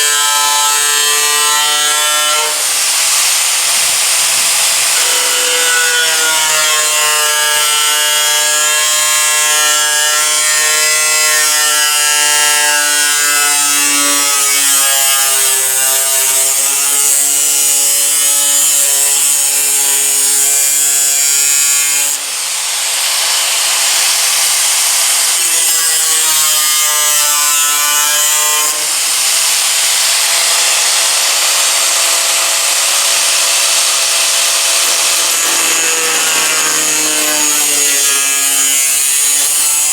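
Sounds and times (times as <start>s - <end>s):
power cutting tool cutting sheet metal: 0.0s - 39.9s.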